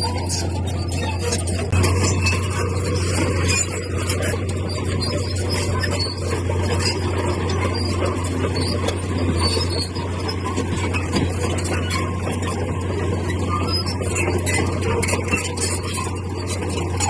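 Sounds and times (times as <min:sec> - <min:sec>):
heavy machine engine running: 0:00.0 - 0:17.0
rapid light clicking and rattling: 0:00.0 - 0:17.0.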